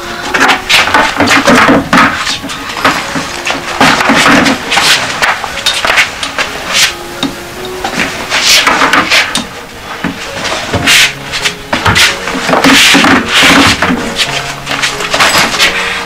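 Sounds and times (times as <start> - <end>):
things rustling on shelves: 0.0 - 7.0, 7.8 - 16.0
knocks and rubbing on wood: 0.3 - 6.9, 7.9 - 15.8.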